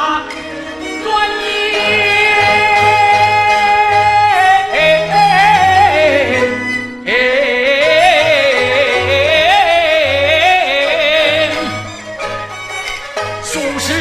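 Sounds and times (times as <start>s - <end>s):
opera singing with wavering notes: 0.0s - 12.2s, 13.4s - 14.0s
instrumental accompaniment: 0.0s - 14.0s.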